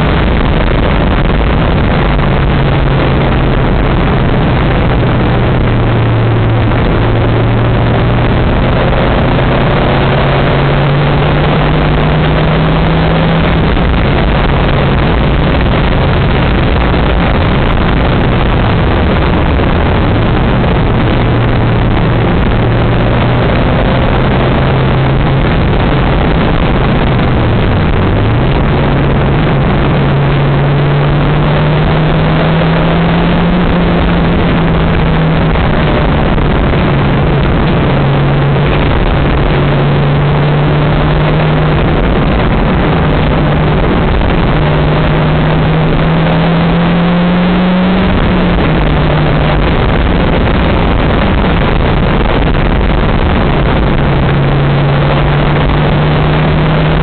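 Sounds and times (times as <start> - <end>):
car engine humming: 0.0 - 57.0
wind and road noise: 0.0 - 57.0.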